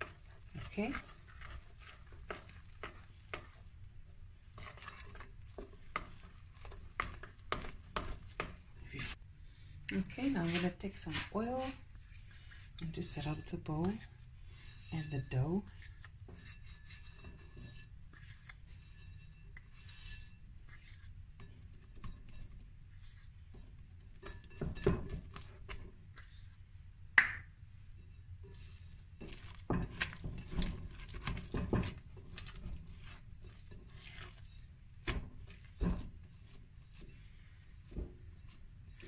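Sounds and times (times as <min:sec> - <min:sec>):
hands kneading sticky dough: 0:00.0 - 0:09.2, 0:09.9 - 0:39.0.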